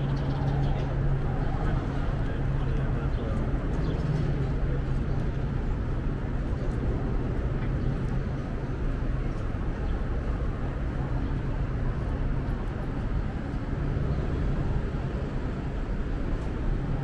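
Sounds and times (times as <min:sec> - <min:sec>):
low traffic rumble: 0:00.0 - 0:17.0
urban bustle: 0:00.0 - 0:17.0.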